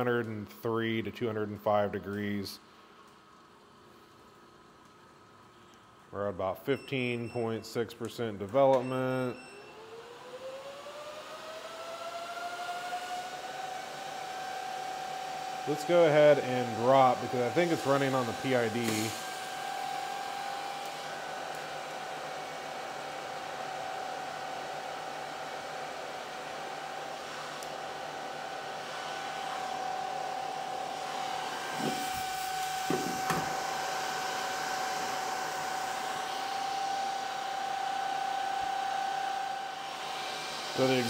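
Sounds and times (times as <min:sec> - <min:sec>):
fan whining: 0:06.2 - 0:41.0.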